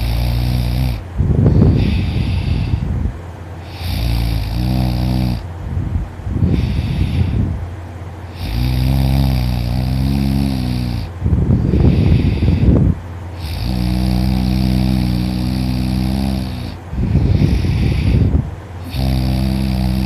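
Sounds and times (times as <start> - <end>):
man snoring loudly: 0.0 - 2.9, 3.6 - 5.5, 6.5 - 7.5, 8.3 - 11.1, 11.7 - 20.0.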